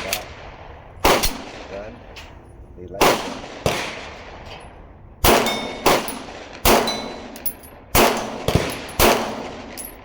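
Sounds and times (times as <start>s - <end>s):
pistol shots: 0.0s - 2.3s, 3.0s - 4.6s, 5.2s - 10.0s.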